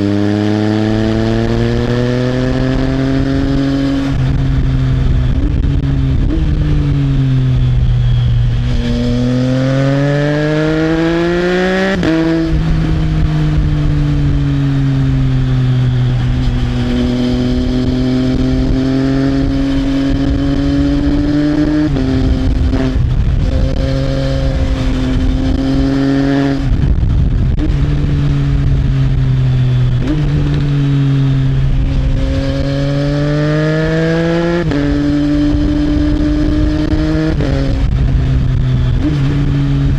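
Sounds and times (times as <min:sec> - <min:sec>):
motorcycle engine revving: 0:00.0 - 0:39.9
wind rushing: 0:00.0 - 0:39.9.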